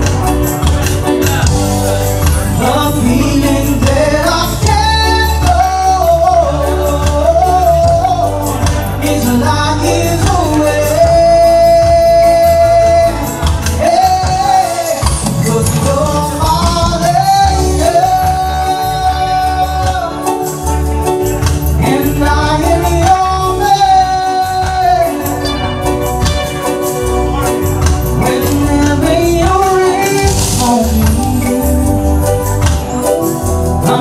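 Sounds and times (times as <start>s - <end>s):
reggae band playing: 0.0s - 34.0s.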